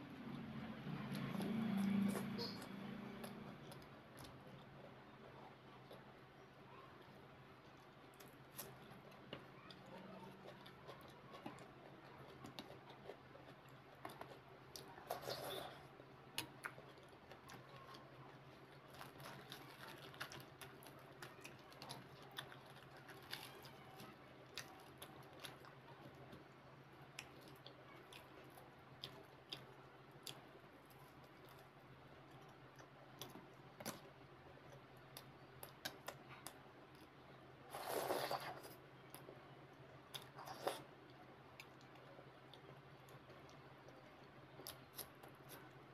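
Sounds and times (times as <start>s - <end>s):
close-miked chewing and mouth clicks: 1.0s - 45.9s.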